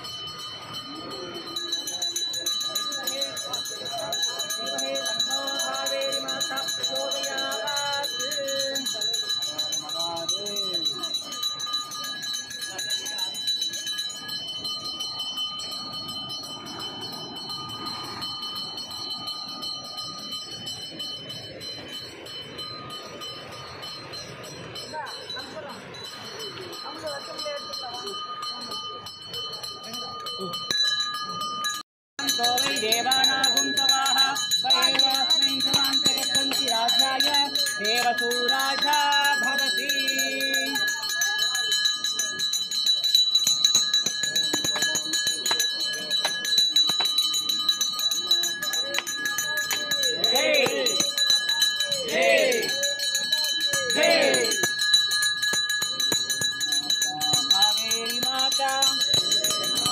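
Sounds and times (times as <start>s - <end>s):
bell ringing continuously: 0.0s - 59.9s.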